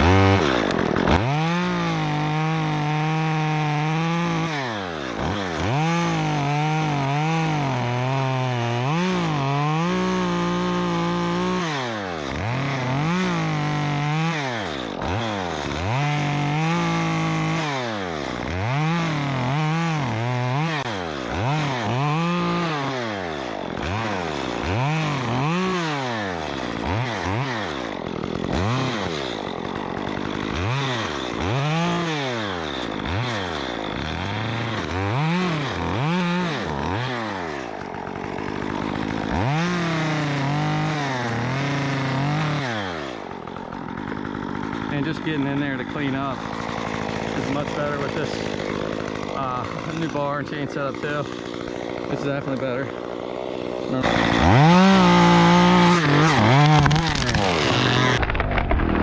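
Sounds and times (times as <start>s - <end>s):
chainsaw revving and cutting: 0.0s - 59.0s.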